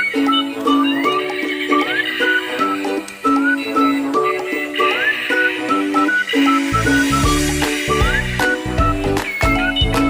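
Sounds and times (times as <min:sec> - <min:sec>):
cheerful music: 0:00.0 - 0:10.0.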